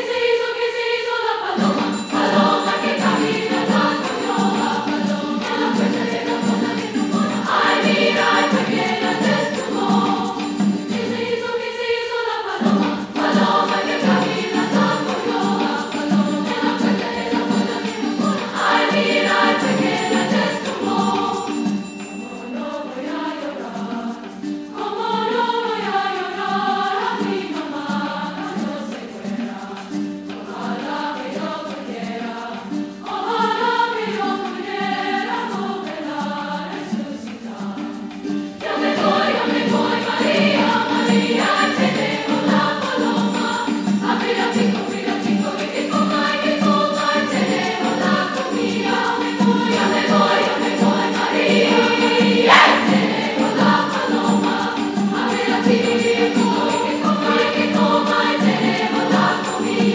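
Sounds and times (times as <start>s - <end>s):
choir singing: 0.0s - 59.9s
guitar: 1.6s - 11.5s, 12.6s - 22.8s, 26.5s - 30.8s, 31.4s - 59.9s.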